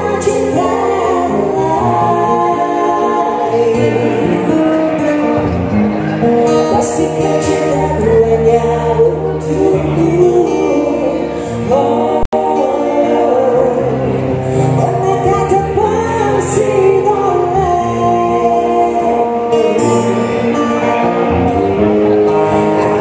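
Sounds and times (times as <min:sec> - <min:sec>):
woman singing: 0:00.0 - 0:05.4, 0:06.2 - 0:20.3
strummed acoustic guitar: 0:00.0 - 0:23.0.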